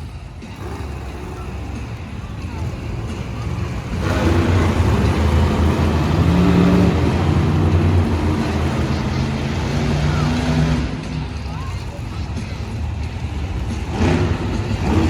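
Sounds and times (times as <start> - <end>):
arena noise: 0.0 - 15.0
monster truck engine revving: 0.0 - 15.0.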